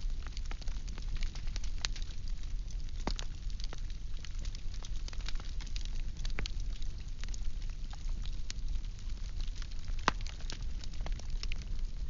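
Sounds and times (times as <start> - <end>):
fire crackles and snaps: 0.0 - 12.0
firewood burning rumble: 0.0 - 12.0.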